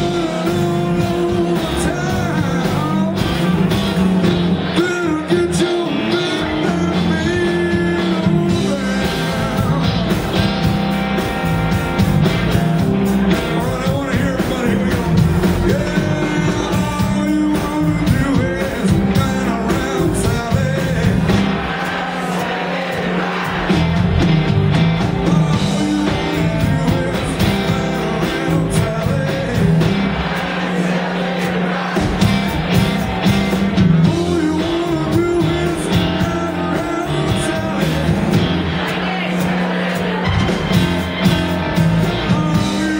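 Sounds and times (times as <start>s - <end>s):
drums: 0.0s - 42.9s
electric guitars: 0.0s - 42.9s
keyboard: 0.0s - 42.9s.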